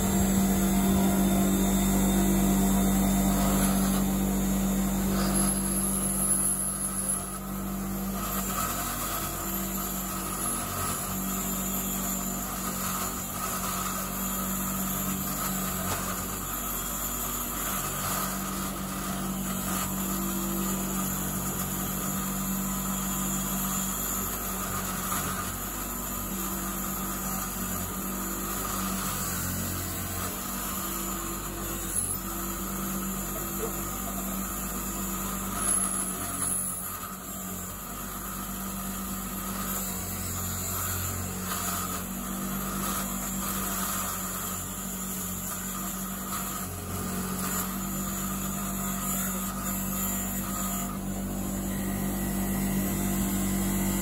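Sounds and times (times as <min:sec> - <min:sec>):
bench grinder motor humming: 0:00.0 - 0:54.0
wire brush polishing metal: 0:00.0 - 0:54.0.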